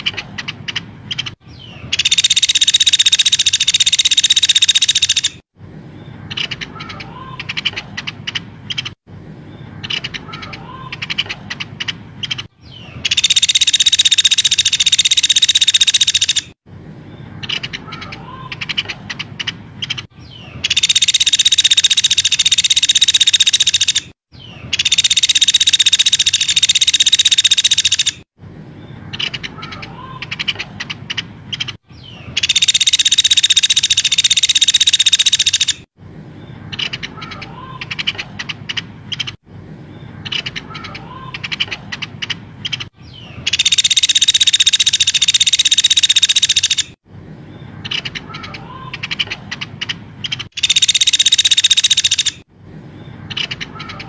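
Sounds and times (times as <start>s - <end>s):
high-pitched bird trill: 0.0s - 5.4s, 9.6s - 16.6s, 17.4s - 28.2s, 28.8s - 35.9s, 36.7s - 39.4s, 40.0s - 47.0s, 47.6s - 52.4s, 53.1s - 54.0s
sharp bird chirps: 0.0s - 5.4s, 6.0s - 16.6s, 17.2s - 39.4s, 40.0s - 54.0s.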